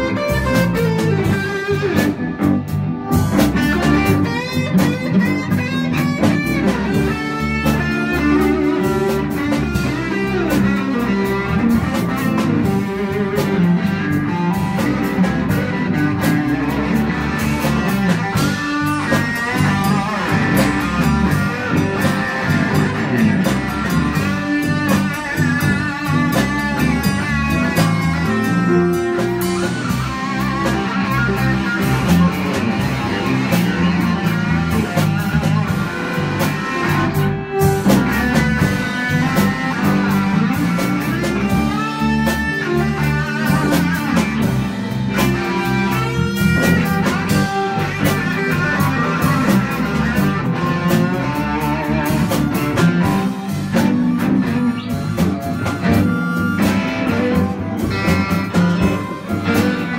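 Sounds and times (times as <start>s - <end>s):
drums: 0.0s - 59.9s
electric guitar: 0.0s - 59.9s
harmonica wailing: 0.0s - 59.9s.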